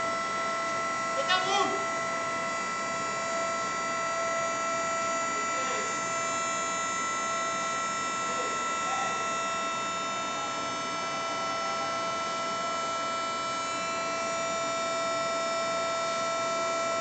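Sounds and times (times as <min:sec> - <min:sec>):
furnace electrical whine: 0:00.0 - 0:17.0.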